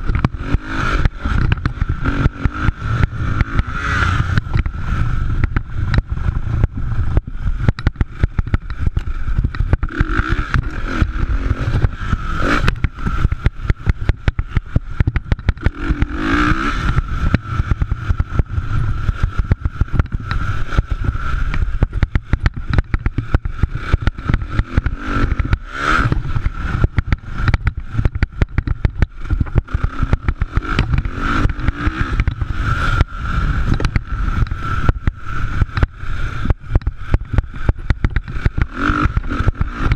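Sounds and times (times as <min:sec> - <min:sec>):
motocross motorcycle engines running: 0:00.0 - 0:39.9.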